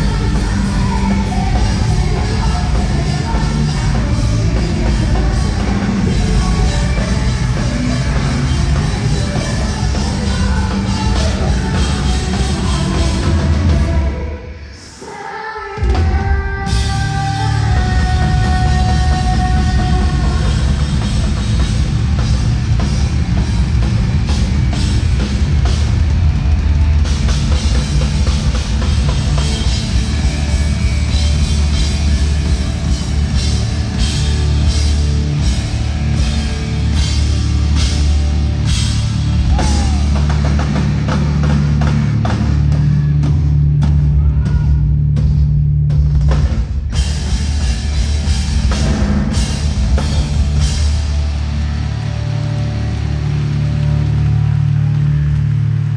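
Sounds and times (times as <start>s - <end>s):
bass guitar: 0.0s - 14.4s, 15.9s - 55.9s
distorted guitars: 0.0s - 15.0s, 15.8s - 55.9s.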